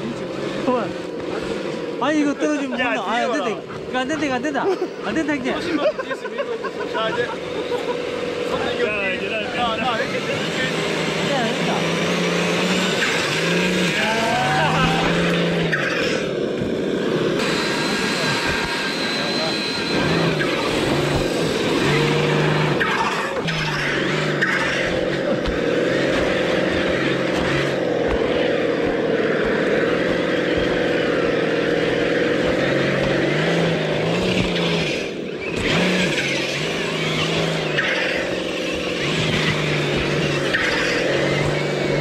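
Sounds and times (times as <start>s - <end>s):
electric motor and gearbox whining: 0.0s - 42.0s.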